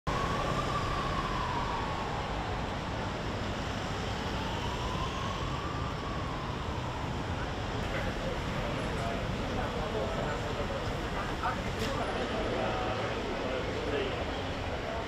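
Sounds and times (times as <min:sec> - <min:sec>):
emergency vehicle siren wailing: 0:00.1 - 0:15.0
street traffic noise: 0:00.1 - 0:15.0.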